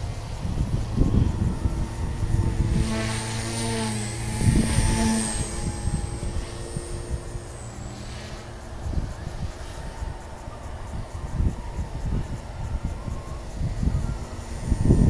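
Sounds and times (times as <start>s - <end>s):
rc helicopter motor whine: 0.0s - 15.0s
wind on microphone: 0.0s - 15.0s.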